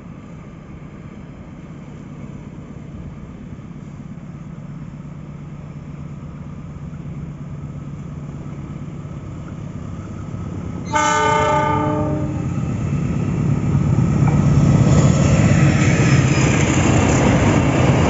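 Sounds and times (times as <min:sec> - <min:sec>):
locomotive engine hum: 0:00.0 - 0:18.0.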